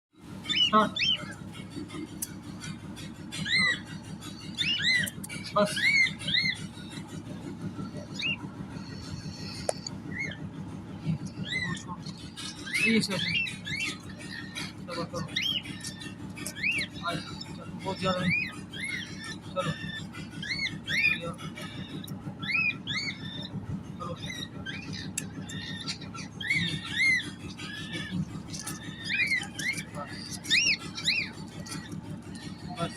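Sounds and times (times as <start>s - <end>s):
bird chirping squeakily: 0.4s - 32.9s
steady low rumble: 1.2s - 32.9s.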